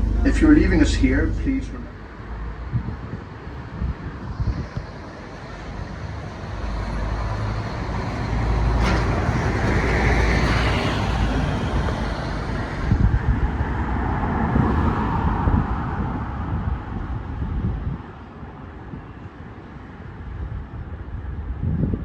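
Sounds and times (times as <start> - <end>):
bus engine rumble: 0.0 - 21.9
road noise: 0.0 - 22.0.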